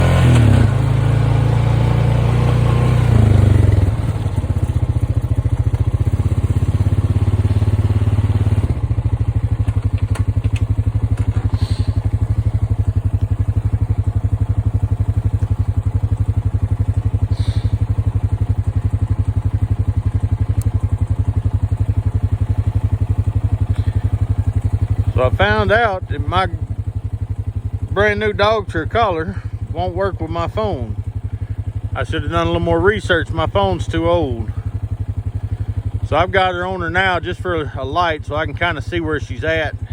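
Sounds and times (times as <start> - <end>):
vehicle engine idling: 0.0 - 39.9.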